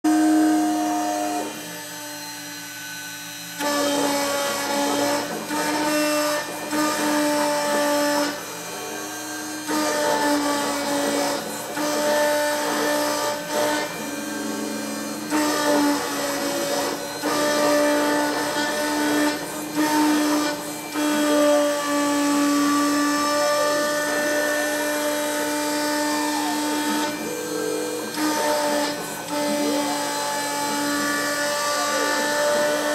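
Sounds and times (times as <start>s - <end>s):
engraving machine spindle whining: 0.1s - 32.9s
motor tones sliding: 0.2s - 32.9s.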